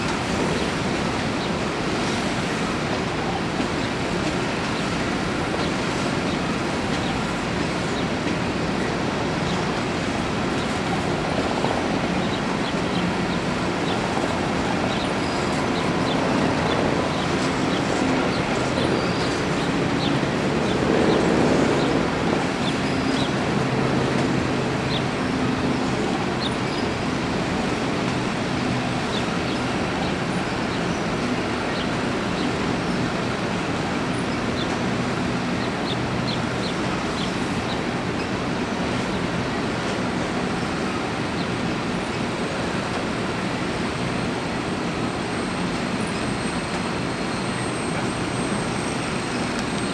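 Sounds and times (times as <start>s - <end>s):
steel wheels rumbling on rail: 0.0s - 49.9s.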